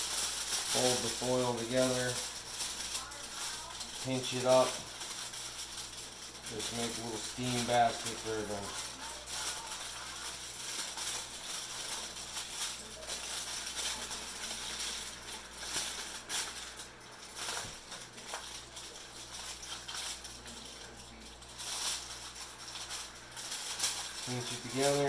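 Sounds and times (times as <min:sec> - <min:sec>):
aluminium foil crinkling: 0:00.0 - 0:25.0.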